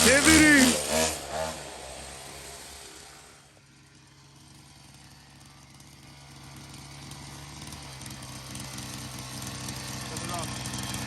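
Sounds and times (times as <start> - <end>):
dirt bike engine buzzing: 0.0 - 11.0.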